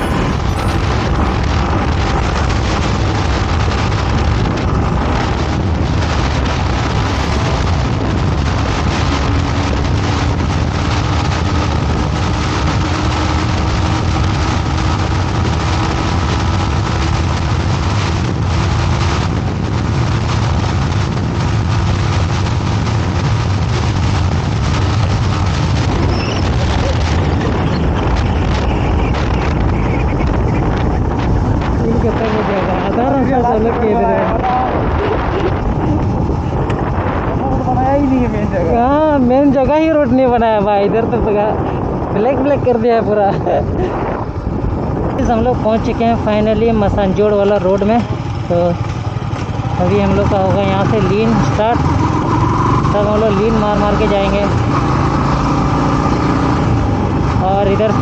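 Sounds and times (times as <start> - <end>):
motorcycle engine running: 0.0 - 42.1, 42.8 - 58.0
wind rush on microphone: 0.0 - 58.0.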